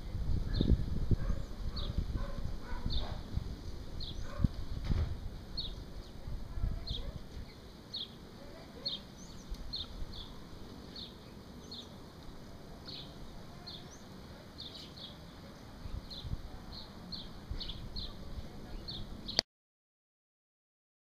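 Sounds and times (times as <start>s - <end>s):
small bird chirping: 0.5s - 4.5s, 5.5s - 19.4s.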